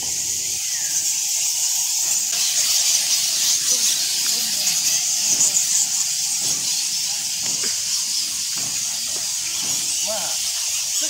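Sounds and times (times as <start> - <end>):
bat colony squeaking and clicking: 0.0 - 11.0.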